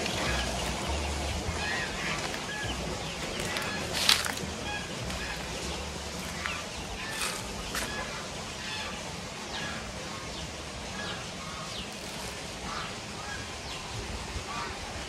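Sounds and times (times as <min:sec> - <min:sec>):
farmyard birds calling: 0:00.0 - 0:15.0.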